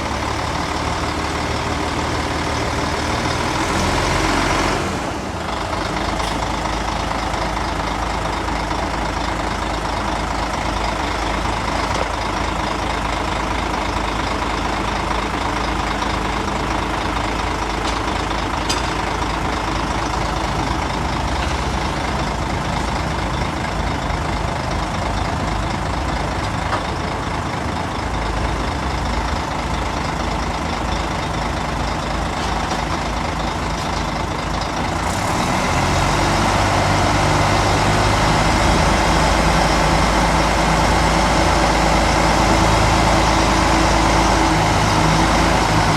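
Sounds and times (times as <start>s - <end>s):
heavy diesel machinery engines: 0.0s - 45.9s.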